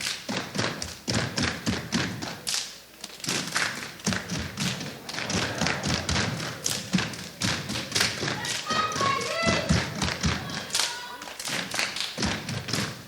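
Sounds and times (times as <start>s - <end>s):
hand claps and slaps: 0.0s - 13.0s
rhythmic foot stomps: 0.0s - 13.0s.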